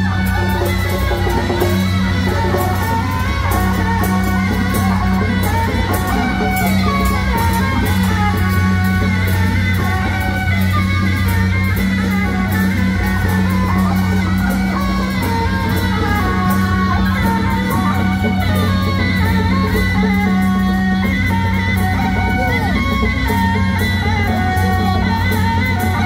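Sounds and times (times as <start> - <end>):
percussion strikes: 0.0 - 26.0.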